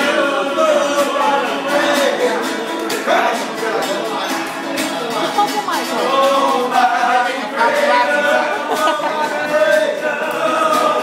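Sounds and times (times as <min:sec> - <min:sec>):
men singing together: 0:00.0 - 0:11.0
strummed acoustic guitar: 0:00.0 - 0:11.0.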